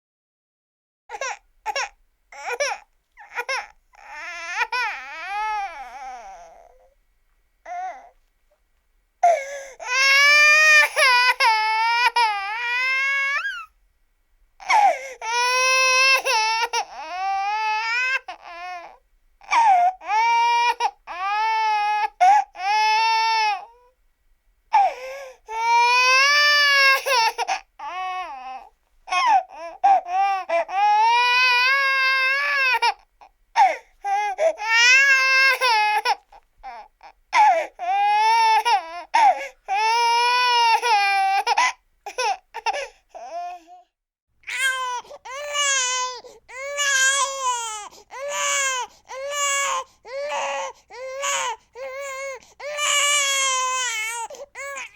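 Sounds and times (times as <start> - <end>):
baby crying: 1.1 - 7.0, 7.6 - 8.2, 9.2 - 13.7, 14.6 - 23.9, 24.7 - 54.9.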